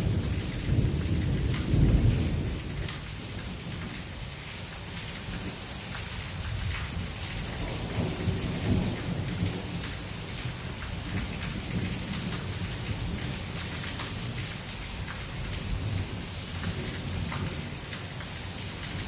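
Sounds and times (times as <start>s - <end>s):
low rumble of thunder: 0.0s - 4.5s, 6.2s - 17.8s
heavy rain falling: 0.0s - 19.0s.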